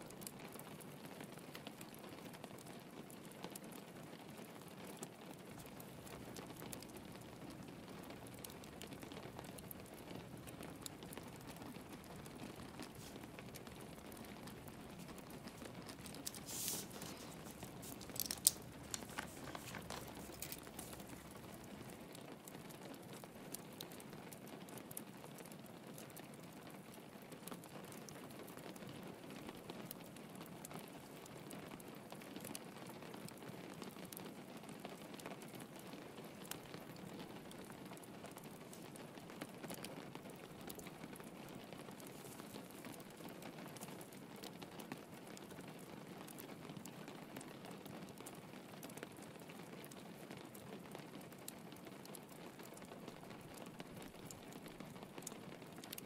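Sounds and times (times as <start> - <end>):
log fire crackling and popping: 0.0 - 56.0
soft rain patter: 0.0 - 56.0.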